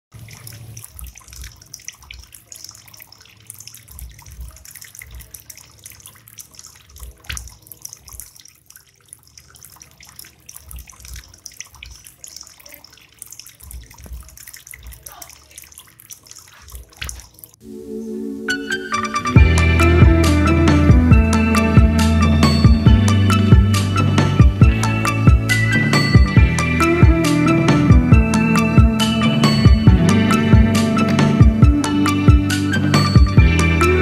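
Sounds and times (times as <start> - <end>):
fountain water trickling and splashing: 0.1 - 17.6, 18.4 - 34.0.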